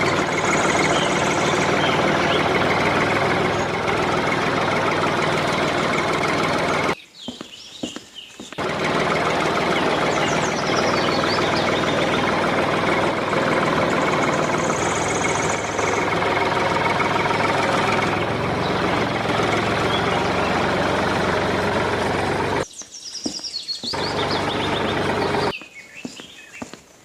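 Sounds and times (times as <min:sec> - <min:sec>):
loud mechanical motor noise: 0:00.0 - 0:07.0, 0:08.6 - 0:22.6, 0:23.9 - 0:25.5
birds chirping: 0:00.0 - 0:27.0.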